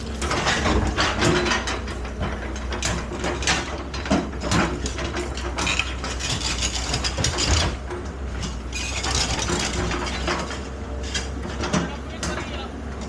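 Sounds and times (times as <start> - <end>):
excavator diesel engine running: 0.0 - 13.0
metallic clanks and knocks: 0.0 - 13.0.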